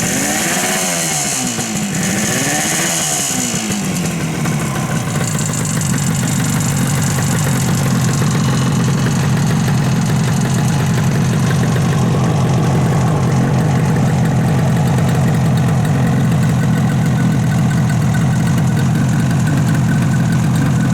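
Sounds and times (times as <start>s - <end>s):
two-stroke engine idling: 0.0s - 20.9s.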